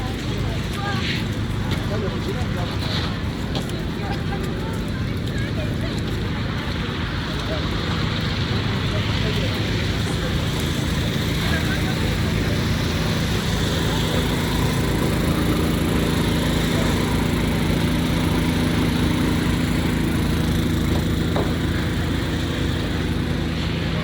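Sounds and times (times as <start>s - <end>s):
engine running: 0.0s - 24.0s
street noise hiss: 0.0s - 24.0s.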